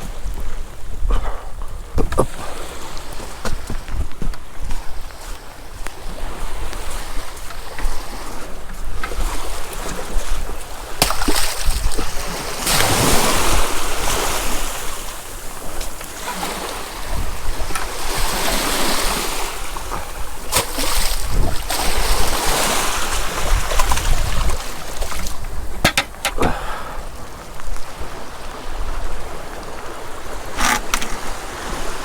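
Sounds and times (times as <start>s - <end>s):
waves on rocky shore: 0.0s - 32.0s
wind buffeting microphone: 0.0s - 32.0s.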